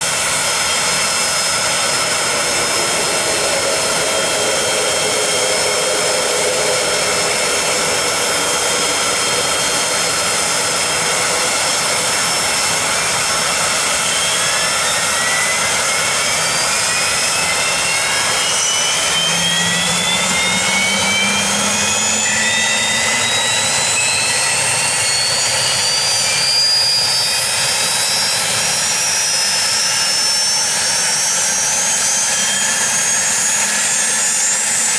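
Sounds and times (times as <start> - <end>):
high whine climbing in pitch: 0.0 - 34.9
jet engine starting: 0.0 - 34.9.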